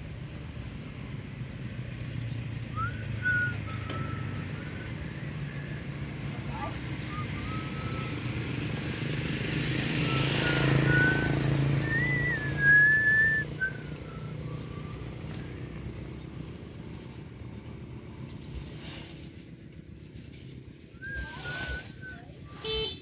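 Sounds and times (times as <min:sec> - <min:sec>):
road noise: 0:00.0 - 0:23.0
vehicle engine passing by: 0:00.0 - 0:23.0.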